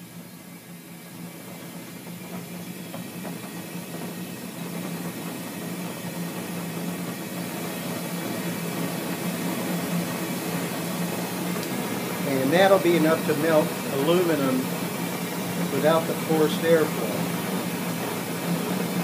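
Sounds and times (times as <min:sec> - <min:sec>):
gas burner rushing hiss: 0:00.0 - 0:19.0.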